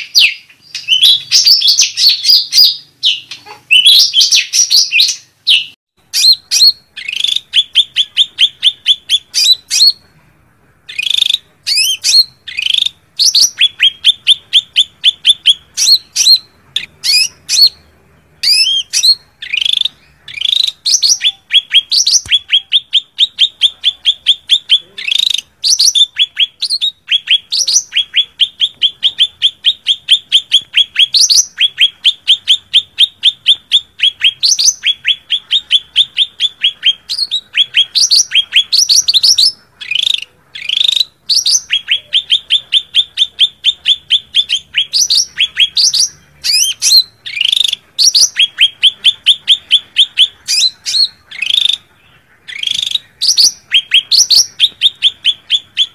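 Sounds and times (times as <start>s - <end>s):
bird rapid sharp repeated notes: 10.9s - 55.9s.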